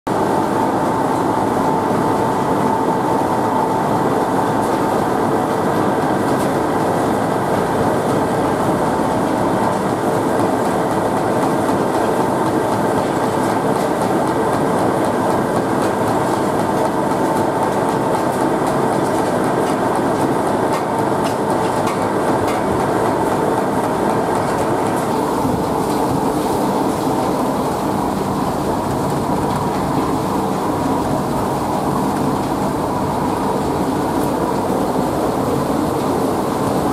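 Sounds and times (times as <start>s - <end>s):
briquette press machinery running: 0.1s - 36.9s
constant machine whine: 0.1s - 36.9s.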